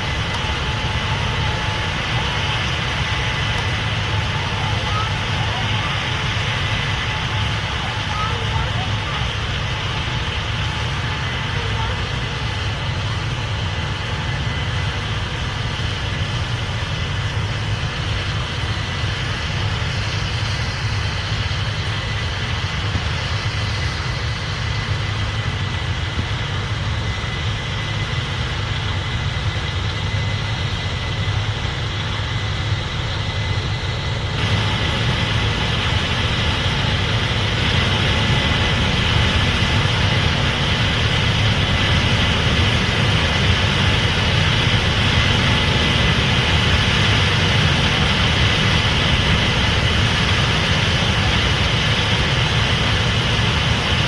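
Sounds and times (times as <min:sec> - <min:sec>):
combine harvester drone: 0:00.0 - 0:54.0
faint high whine: 0:00.0 - 0:54.0.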